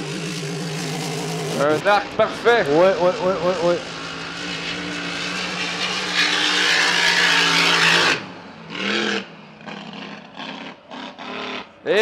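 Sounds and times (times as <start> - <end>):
racing boat engine at full throttle: 0.0 - 12.0.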